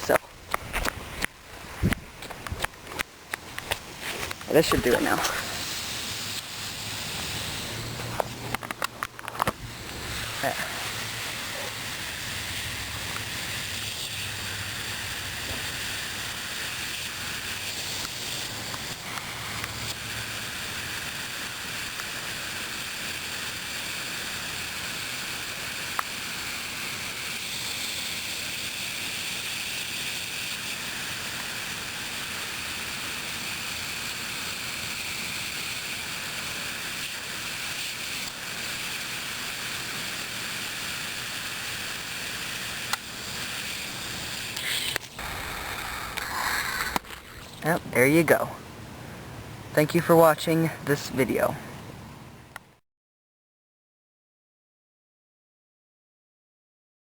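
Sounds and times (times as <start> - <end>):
sprinkler spraying water: 0.0 - 48.5.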